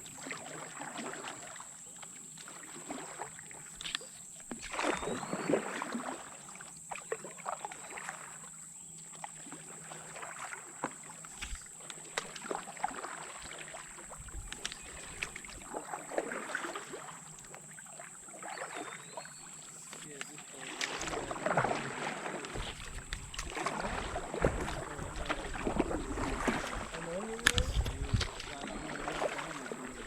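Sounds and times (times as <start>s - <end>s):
paddle splashing in water: 0.0s - 30.0s.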